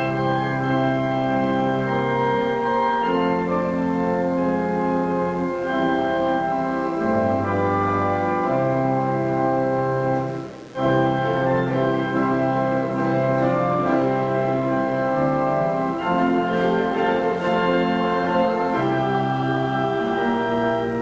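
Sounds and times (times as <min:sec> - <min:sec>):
church organ: 0:00.0 - 0:21.0
grand piano: 0:00.0 - 0:21.0.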